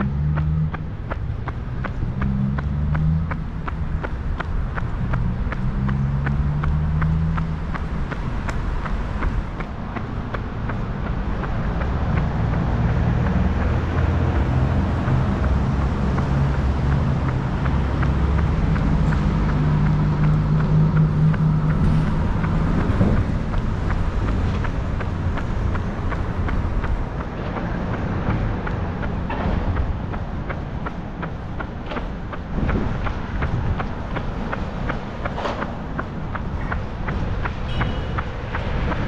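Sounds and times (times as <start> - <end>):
passing road traffic rumble: 0.0 - 39.0
runner's footsteps: 0.0 - 39.0.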